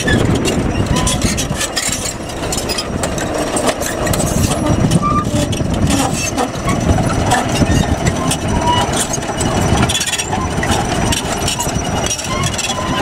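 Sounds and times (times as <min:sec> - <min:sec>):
bulldozer diesel engine running: 0:00.0 - 0:13.0
steel tracks grinding over rocks: 0:00.0 - 0:13.0
track links clanking: 0:00.0 - 0:13.0.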